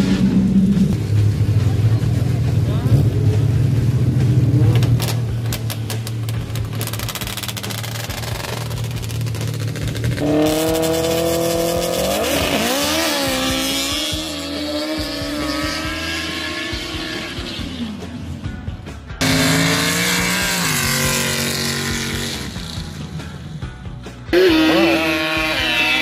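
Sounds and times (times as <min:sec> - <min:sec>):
drag racer engine revving: 0:00.0 - 0:18.6, 0:19.2 - 0:23.2, 0:24.3 - 0:26.0.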